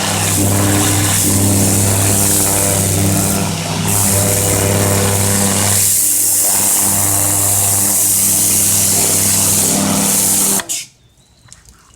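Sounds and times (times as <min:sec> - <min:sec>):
pressure washer spraying: 0:00.0 - 0:10.9.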